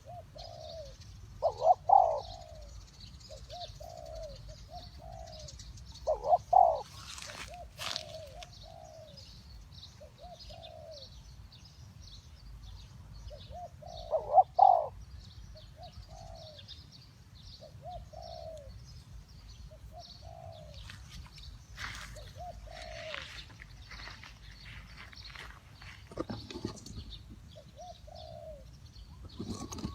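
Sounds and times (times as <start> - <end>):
doves cooing: 0.0 - 9.3, 10.0 - 11.2, 13.3 - 15.0, 15.6 - 16.8, 17.6 - 18.9, 19.5 - 29.9.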